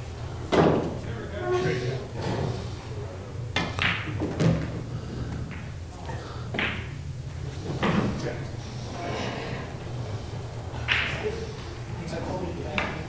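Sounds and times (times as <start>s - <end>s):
low hum of hall: 0.0s - 13.0s
pool balls clacking: 0.4s - 2.6s, 3.5s - 13.0s.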